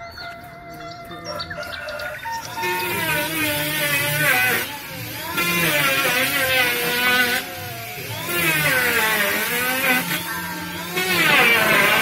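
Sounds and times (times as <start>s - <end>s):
electric hand planer shaving wood: 1.9s - 12.0s.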